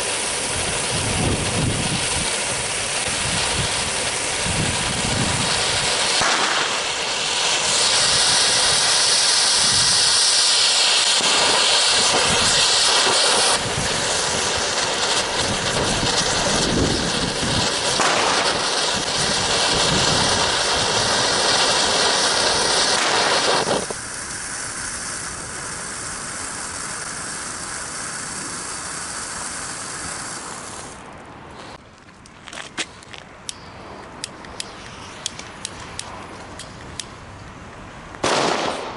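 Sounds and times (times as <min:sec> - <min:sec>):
firework fountain hissing: 0:00.0 - 0:31.8, 0:38.2 - 0:38.9.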